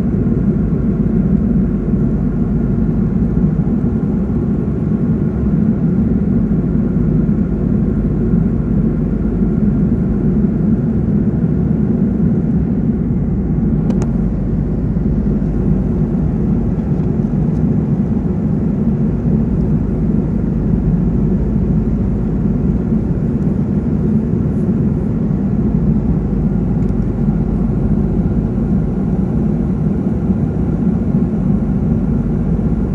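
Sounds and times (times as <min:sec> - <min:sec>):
steady engine drone: 0:00.0 - 0:32.9.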